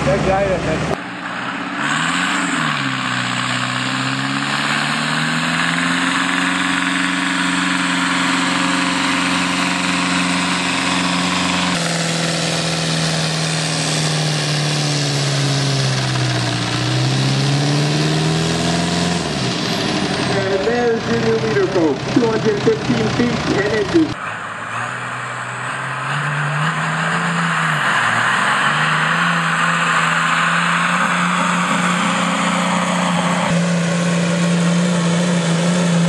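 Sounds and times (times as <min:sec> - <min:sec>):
tractor diesel engine revving: 0:00.0 - 0:36.0.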